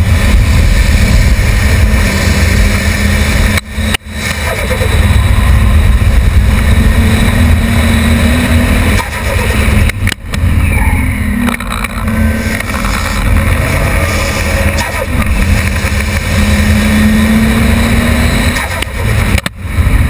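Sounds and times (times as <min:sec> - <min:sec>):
car engine under way: 0:00.0 - 0:20.0
wind rush on microphone: 0:00.0 - 0:20.0.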